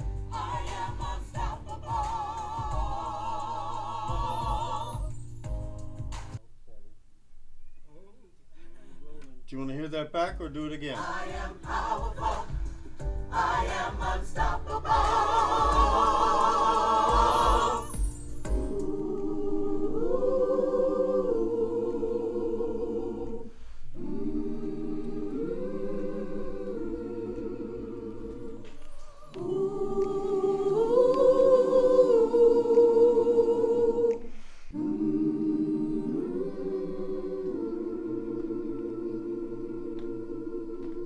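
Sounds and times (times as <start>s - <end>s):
choir singing wordless chords: 0.0s - 6.4s, 9.8s - 41.0s.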